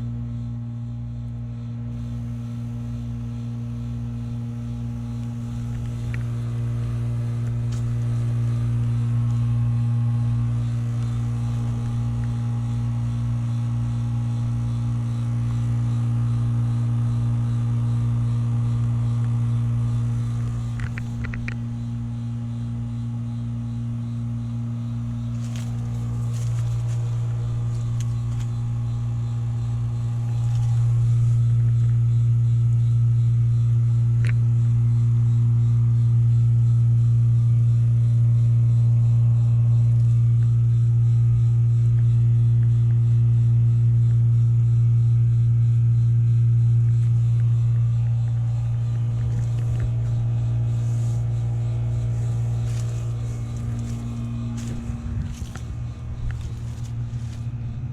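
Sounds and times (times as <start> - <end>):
heat pump compressor hum: 0.0 - 57.9.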